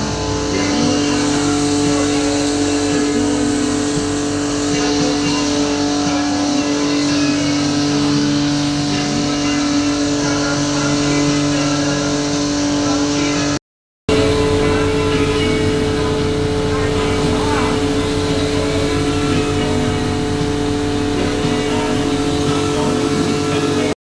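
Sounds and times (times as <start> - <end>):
motor hum: 0.0 - 13.4, 14.1 - 24.0
continuous rushing noise: 0.0 - 24.0.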